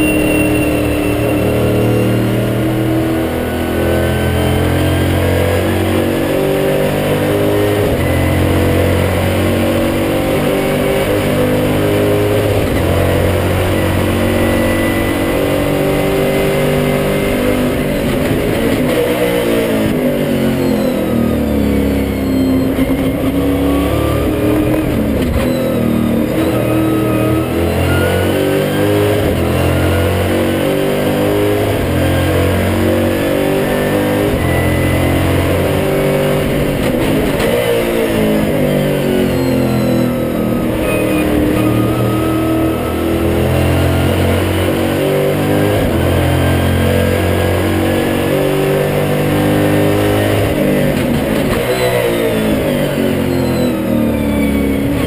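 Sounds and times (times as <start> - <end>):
race car engine from cockpit: 0.0 - 55.0.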